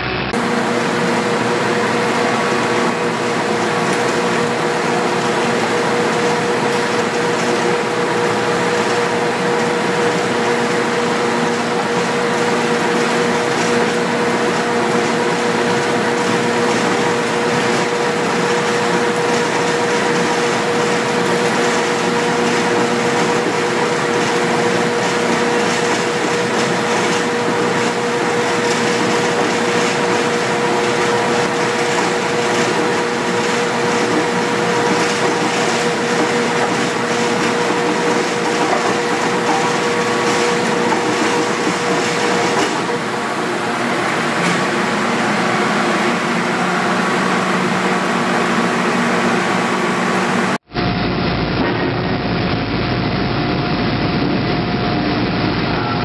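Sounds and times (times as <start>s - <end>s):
industrial machine drone: 0.0s - 56.0s.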